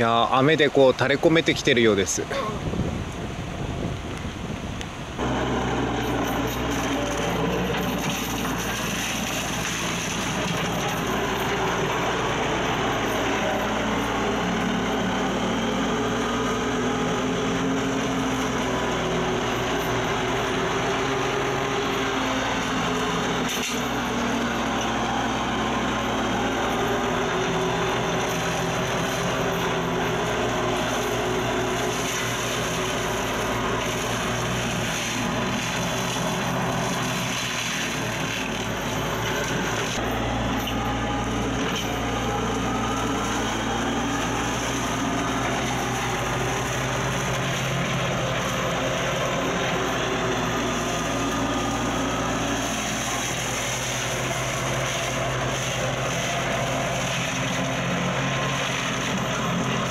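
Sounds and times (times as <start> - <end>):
excavator diesel engine under load: 0.0 - 59.9
flail mower shredding brush: 0.0 - 59.9.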